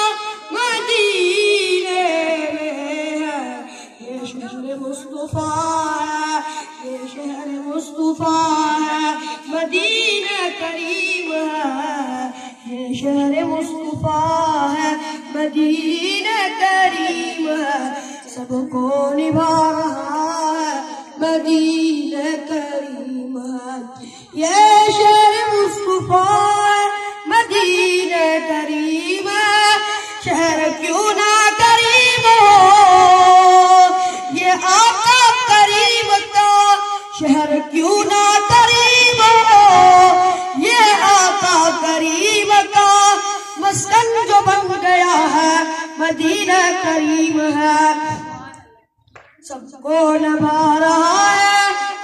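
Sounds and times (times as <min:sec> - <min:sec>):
child singing unaccompanied: 0:00.0 - 0:48.8, 0:49.4 - 0:52.0.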